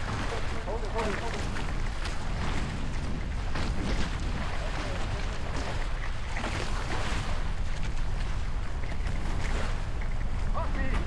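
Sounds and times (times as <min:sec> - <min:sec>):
water splashing along hulls: 0:00.0 - 0:11.0
wind buffeting microphone: 0:00.0 - 0:11.0.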